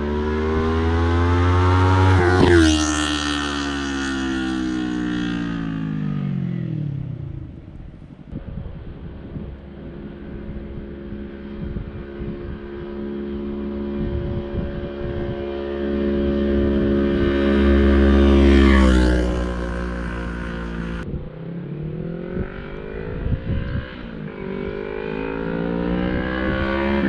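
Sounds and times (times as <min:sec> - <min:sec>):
motorcycle engine passing by: 0:00.0 - 0:27.0.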